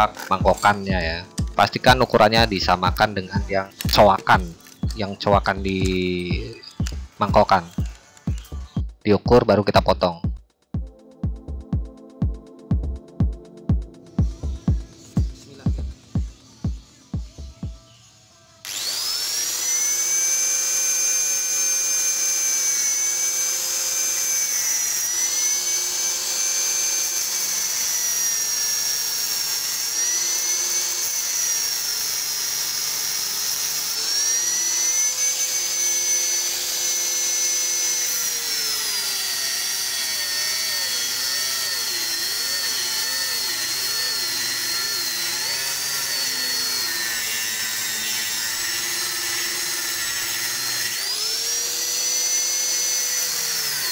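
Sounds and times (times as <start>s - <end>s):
angle grinder cutting steel: 0.0s - 8.8s, 14.1s - 53.9s.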